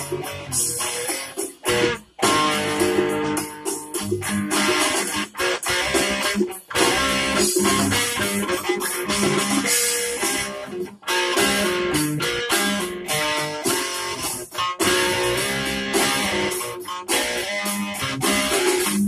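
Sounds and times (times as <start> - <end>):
fingerstyle guitar: 0.0 - 19.0.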